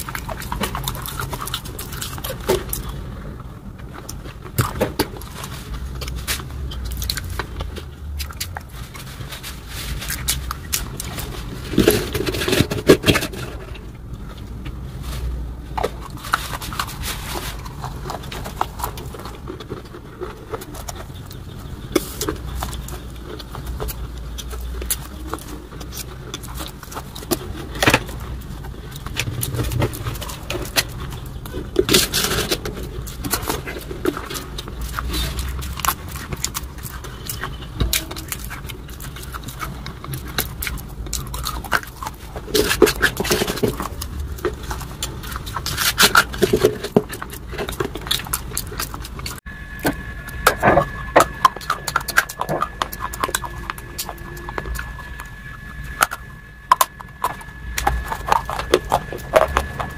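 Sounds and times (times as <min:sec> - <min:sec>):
wet chewing crunches: 0:00.0 - 0:59.9.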